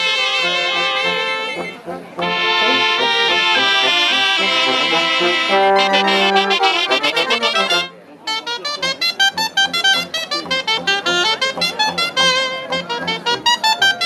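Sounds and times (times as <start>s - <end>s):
wind and brass band playing: 0.0s - 14.0s.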